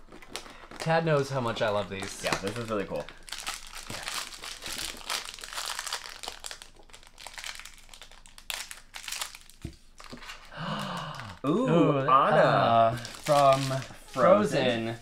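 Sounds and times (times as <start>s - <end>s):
packaging crinkling: 0.0s - 11.4s, 13.0s - 14.8s.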